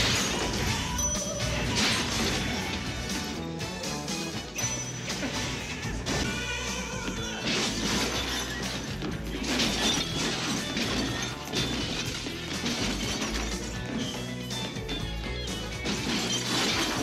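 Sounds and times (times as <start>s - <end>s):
crashing shattering noises: 0.0s - 3.2s, 4.6s - 17.0s
music: 0.0s - 17.0s.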